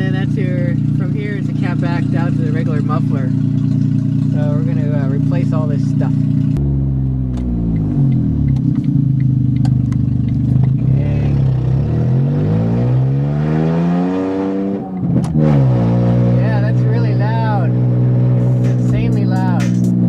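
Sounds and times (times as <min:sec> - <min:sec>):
loud car engine revving: 0:00.0 - 0:20.0.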